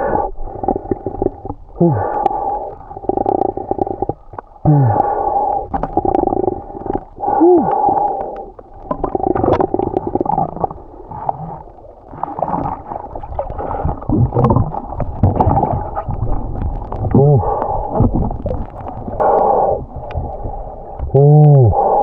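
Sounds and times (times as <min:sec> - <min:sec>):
bubbling glides: 0:00.0 - 0:22.0
muffled water gurgling and sloshing: 0:00.0 - 0:22.0.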